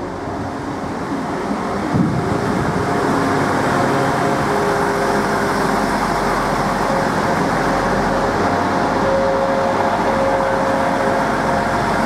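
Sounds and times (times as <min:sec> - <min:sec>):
diesel engines droning: 0:00.0 - 0:12.0
train wheels rumbling on rails: 0:00.0 - 0:12.0.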